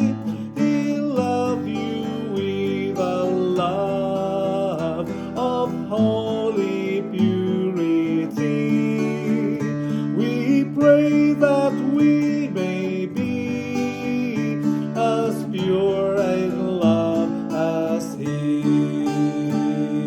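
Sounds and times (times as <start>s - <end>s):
acoustic guitar playing: 0.0s - 20.0s.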